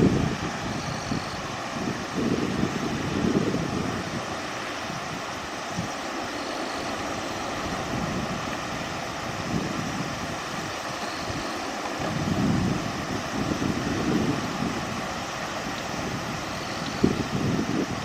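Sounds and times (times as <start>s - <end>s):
wind buffeting microphone: 0.0s - 6.1s, 6.9s - 18.0s
river water rushing: 0.0s - 18.0s.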